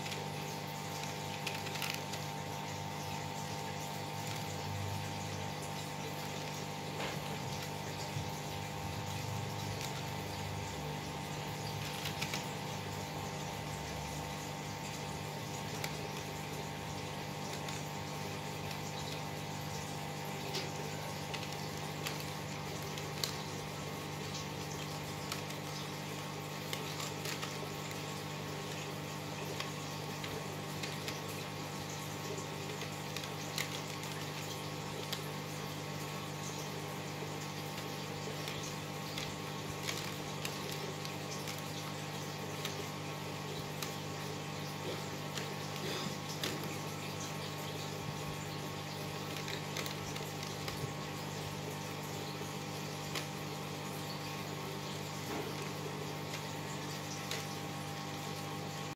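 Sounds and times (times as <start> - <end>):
aquarium pump humming: 0.0 - 58.9
small clicks: 0.0 - 58.9.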